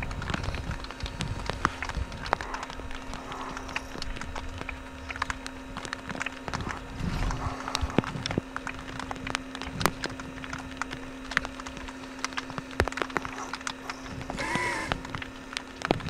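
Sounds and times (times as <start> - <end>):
animal footfalls: 0.0 - 16.0
sharp clicks: 0.0 - 16.0
steady low hum: 0.0 - 16.0.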